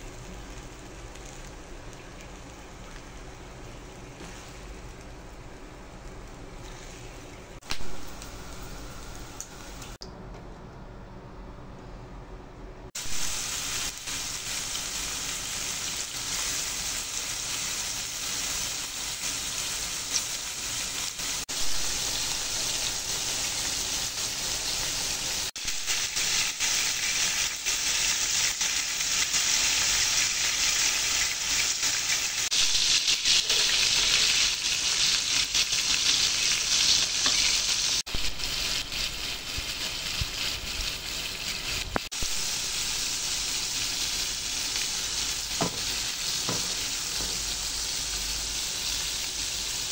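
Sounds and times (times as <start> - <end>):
chicken sizzling in a frying pan: 0.0 - 10.0, 13.0 - 49.9.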